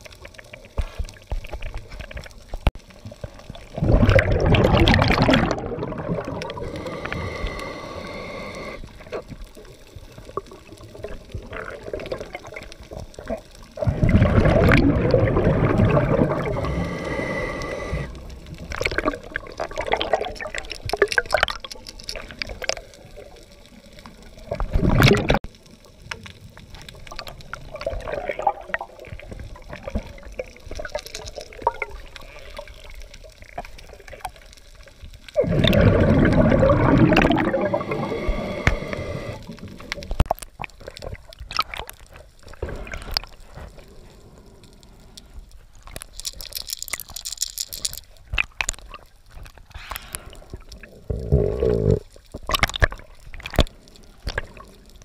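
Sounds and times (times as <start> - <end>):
crackles: 0.0 - 55.0
muffled underwater water movement: 0.0 - 55.0
water bubbling: 1.7 - 25.6, 26.8 - 45.2, 46.3 - 55.0.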